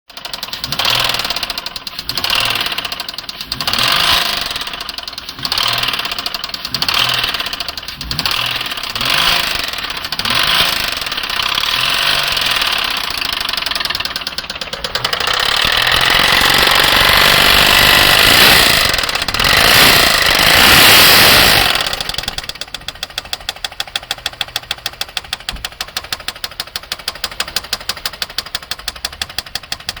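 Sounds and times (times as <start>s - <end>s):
car engine revving: 0.1s - 29.8s
engine knocking at idle: 0.1s - 30.0s.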